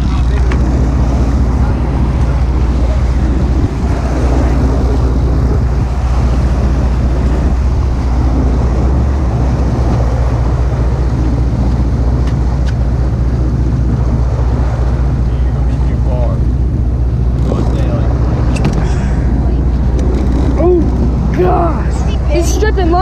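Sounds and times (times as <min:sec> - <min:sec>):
boat engine running: 0:00.0 - 0:23.0
water washing: 0:00.0 - 0:23.0
wind buffeting microphone: 0:00.0 - 0:23.0.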